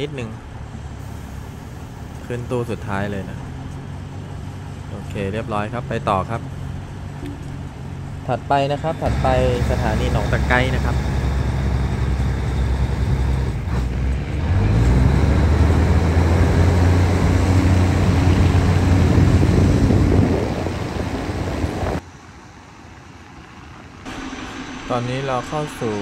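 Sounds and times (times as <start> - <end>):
diesel railcar engine: 0.0 - 26.0.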